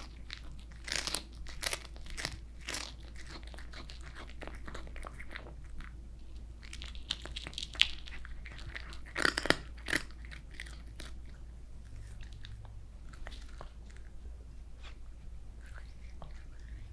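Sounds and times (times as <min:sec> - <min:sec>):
cat crunching dried fish: 0:00.0 - 0:14.9, 0:15.6 - 0:16.9.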